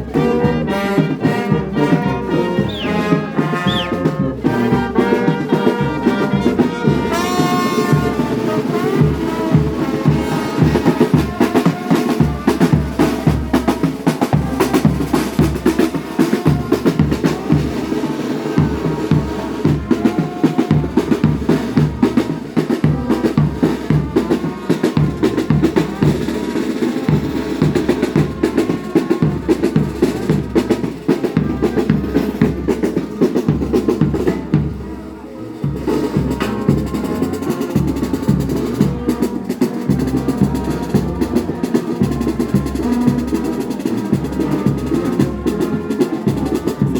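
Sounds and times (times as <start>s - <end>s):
snare and bass drum beats: 0.0s - 35.0s, 35.6s - 46.9s
brass band playing: 0.0s - 46.9s.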